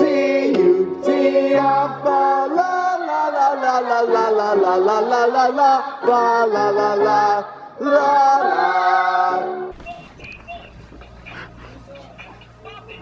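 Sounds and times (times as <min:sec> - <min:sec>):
voices singing a cappella: 0:00.0 - 0:10.7.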